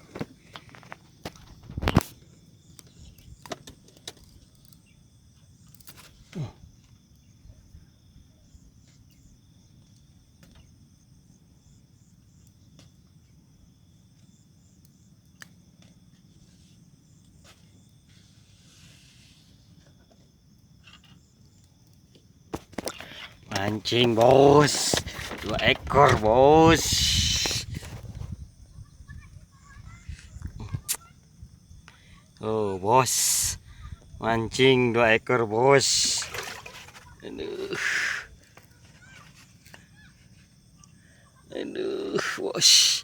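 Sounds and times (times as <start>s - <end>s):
faint outdoor hum: 0.0s - 43.0s
insects chirring: 0.0s - 43.0s.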